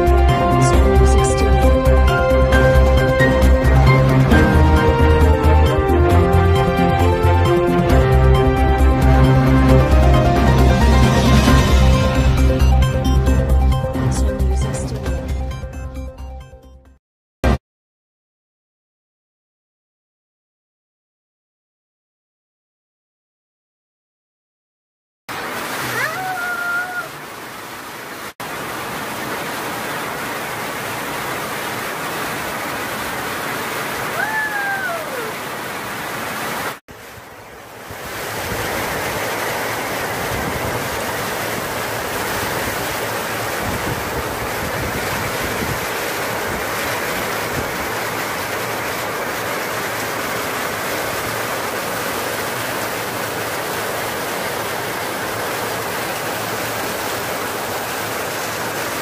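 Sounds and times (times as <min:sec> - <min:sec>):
heavy rain pouring: 0:00.0 - 0:14.8, 0:25.3 - 0:59.0.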